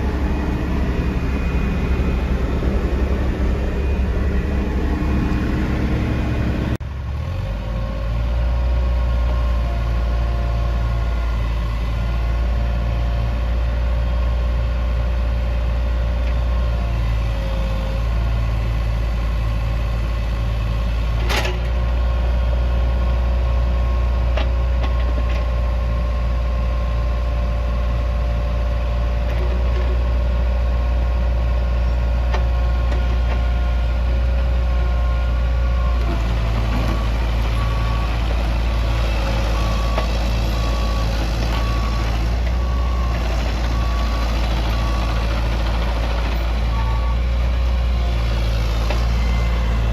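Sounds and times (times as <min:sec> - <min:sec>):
excavator diesel engine humming: 0:00.0 - 0:49.9.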